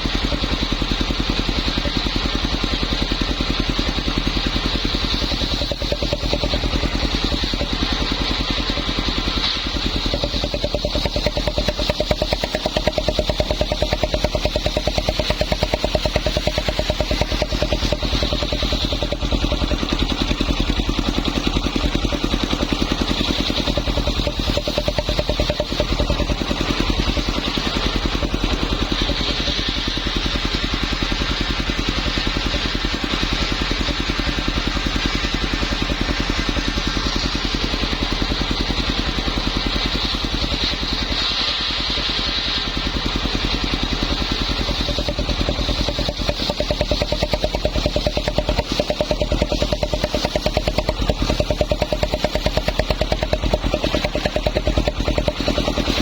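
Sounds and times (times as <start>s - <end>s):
circular saw machine running: 0.0s - 56.0s.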